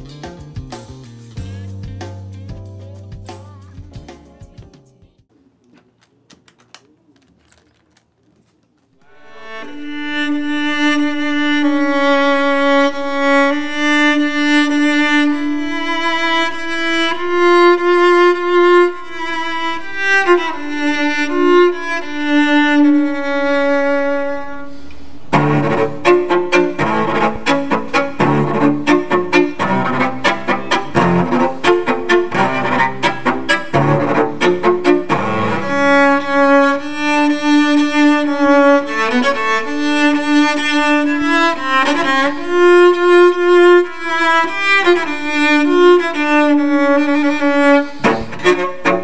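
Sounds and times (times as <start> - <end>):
solo cello bowed: 9.0 - 49.0.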